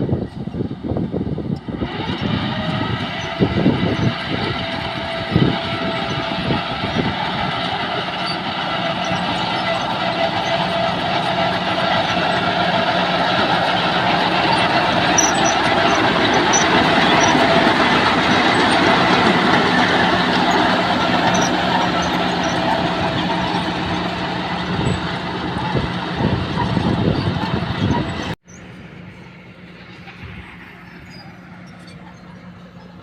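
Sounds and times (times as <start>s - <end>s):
bulldozer engine running: 0.0s - 33.0s.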